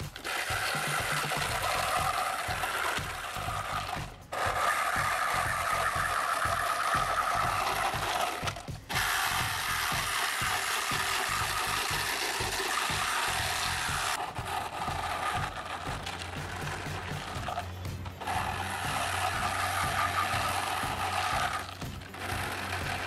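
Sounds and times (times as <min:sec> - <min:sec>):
toy car motor whirring: 0:00.0 - 0:23.0.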